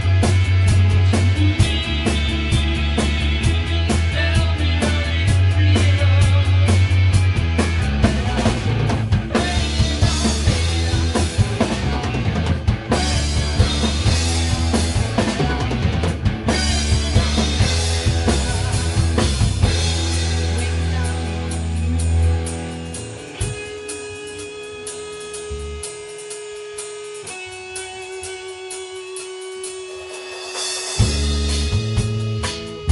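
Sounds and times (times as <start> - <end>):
bass guitar: 0.0 - 32.9
distorted electric guitars: 0.0 - 32.9
drum kit playing: 0.0 - 32.9.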